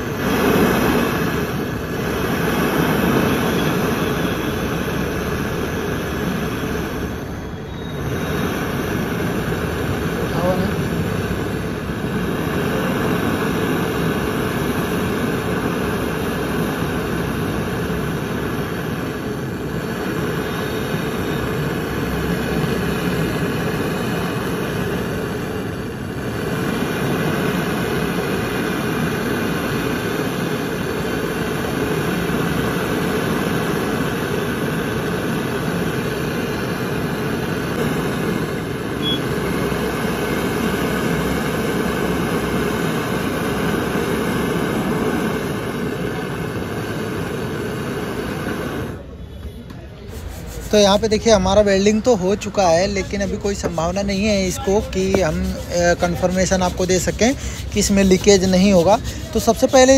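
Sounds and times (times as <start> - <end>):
gas torch flame rushing: 0.0 - 59.9.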